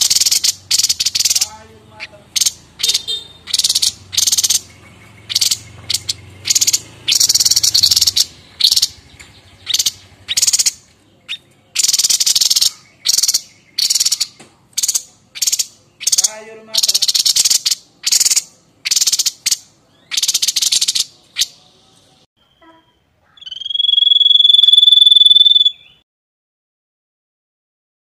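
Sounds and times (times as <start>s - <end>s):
bird rasping chatter: 0.0s - 21.6s, 22.6s - 26.0s.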